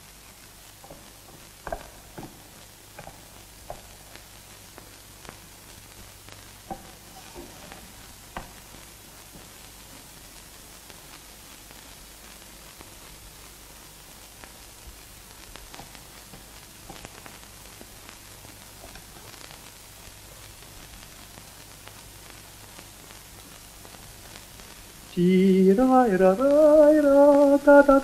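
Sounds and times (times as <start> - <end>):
faint clicks and crackles: 0.0 - 28.0
old film soundtrack hiss: 0.0 - 28.0.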